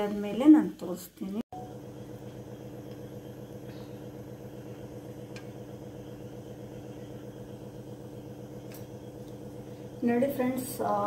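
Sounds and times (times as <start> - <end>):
steady mechanical hum: 1.2 - 11.0.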